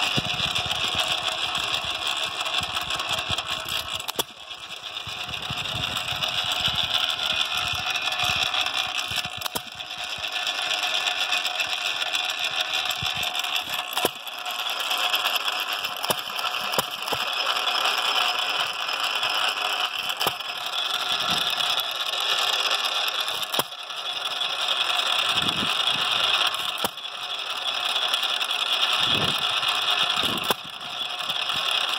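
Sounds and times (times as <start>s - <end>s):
engine gears clattering: 0.0s - 31.9s
hit-and-miss engine running slowly: 0.0s - 31.9s.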